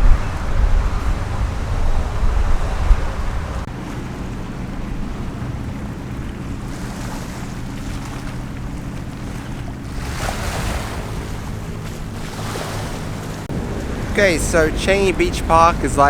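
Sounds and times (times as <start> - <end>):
low steady hum: 0.0 - 16.0
sea waves washing on beach: 0.0 - 16.0
wind buffeting microphone: 0.0 - 16.0.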